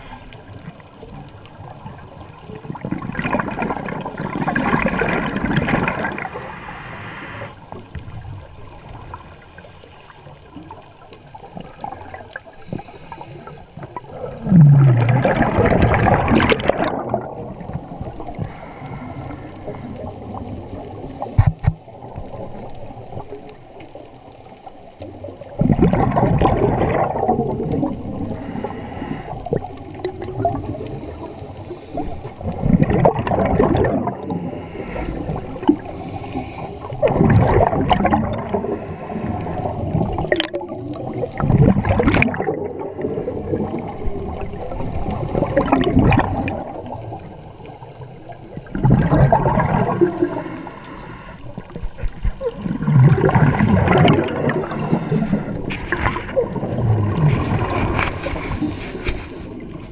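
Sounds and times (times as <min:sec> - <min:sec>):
underwater gurgling exhaust bubbles: 0:00.0 - 0:59.9.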